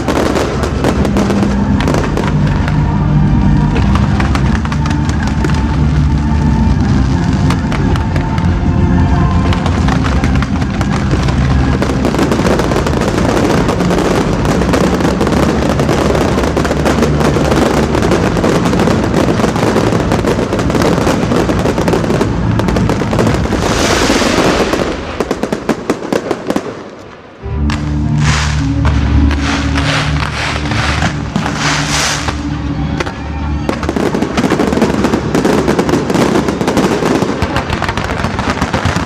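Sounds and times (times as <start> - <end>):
fireworks bangs and crackle: 0.0 - 39.0.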